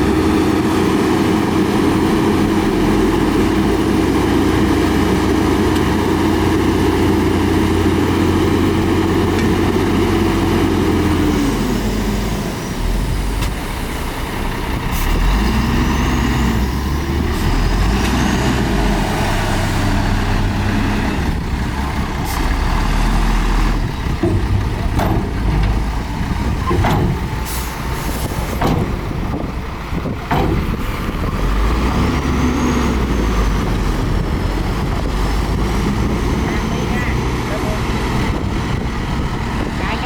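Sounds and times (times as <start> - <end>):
diesel machinery engine revving: 0.0 - 40.0.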